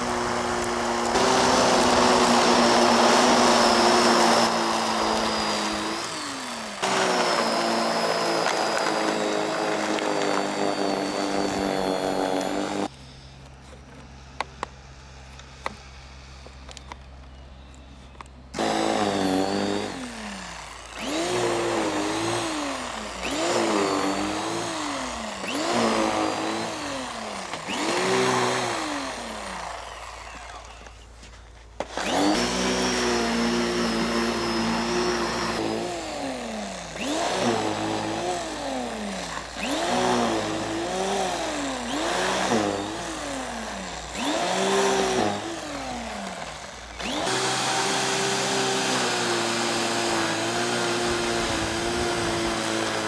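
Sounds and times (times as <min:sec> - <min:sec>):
electric snow thrower motor whine: 0:00.0 - 0:13.3, 0:18.5 - 0:53.0.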